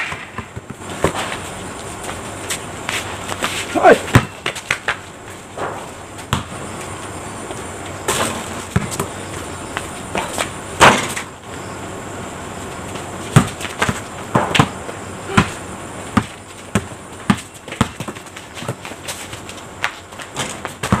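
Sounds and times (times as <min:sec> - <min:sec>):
basketball bouncing on concrete: 0:00.0 - 0:11.6, 0:12.7 - 0:21.0.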